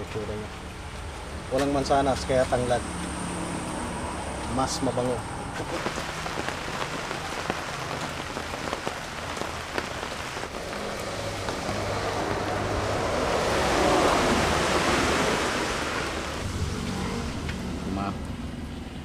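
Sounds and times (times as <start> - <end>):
rain falling on plants: 0.0 - 19.0.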